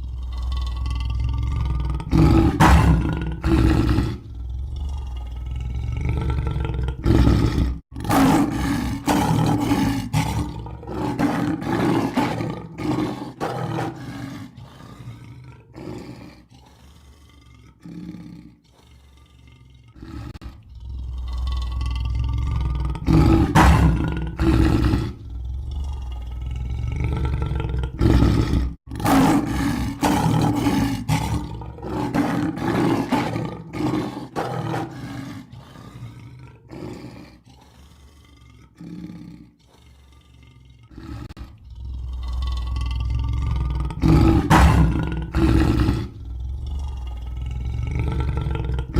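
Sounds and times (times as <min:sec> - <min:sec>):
lion roaring: 0:00.0 - 0:48.9.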